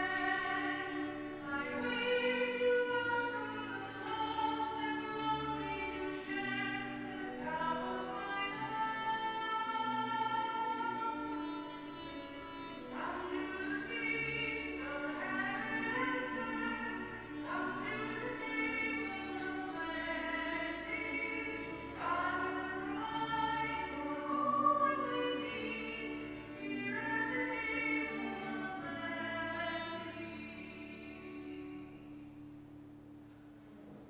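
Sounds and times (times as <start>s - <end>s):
hymn singing: 0.0s - 32.2s.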